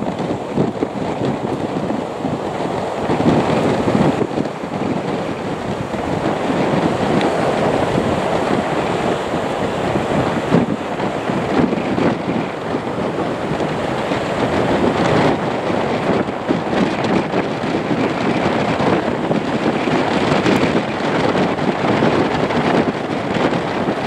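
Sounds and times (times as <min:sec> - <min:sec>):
turboprop engines rumbling: 0:00.0 - 0:24.0.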